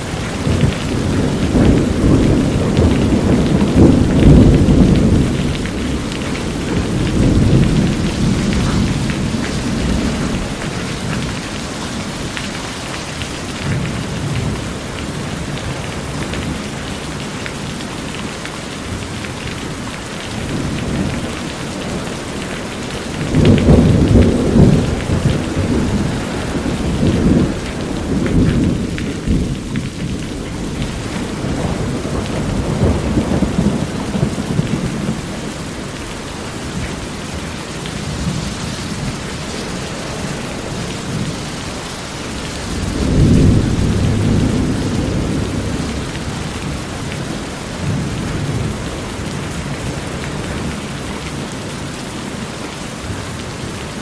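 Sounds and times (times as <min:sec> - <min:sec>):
thunder rumbling: 0:00.0 - 0:18.2, 0:18.9 - 0:51.5
heavy rain on corrugated roof: 0:00.0 - 0:54.0.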